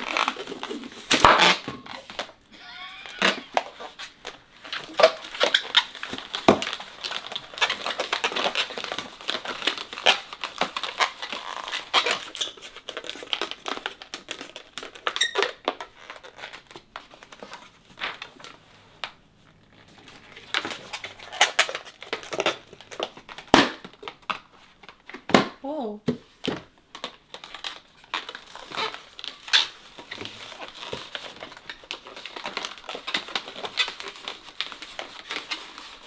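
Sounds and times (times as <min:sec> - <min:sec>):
balloons squeaking and crinkling: 0:00.0 - 0:25.2, 0:27.2 - 0:36.0.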